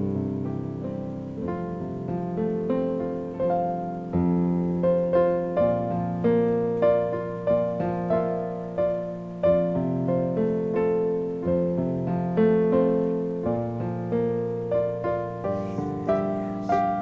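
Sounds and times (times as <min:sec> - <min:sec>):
slow soft piano: 0:00.0 - 0:17.0.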